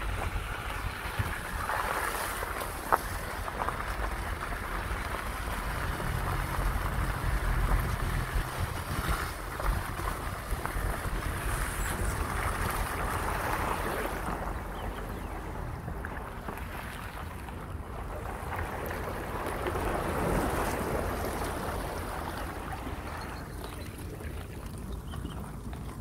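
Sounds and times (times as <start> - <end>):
vehicle engine and road rumble: 0.0 - 26.0
wind buffeting microphone: 0.0 - 26.0.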